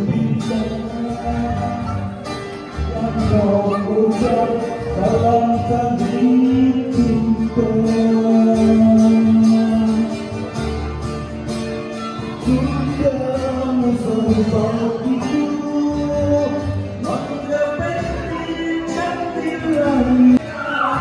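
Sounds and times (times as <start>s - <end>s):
pop song with guitar and beat: 0.0s - 21.0s.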